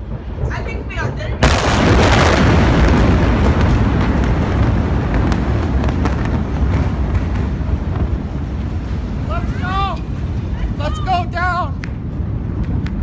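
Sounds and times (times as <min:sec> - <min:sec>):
deep explosion rumble: 0:00.0 - 0:13.0.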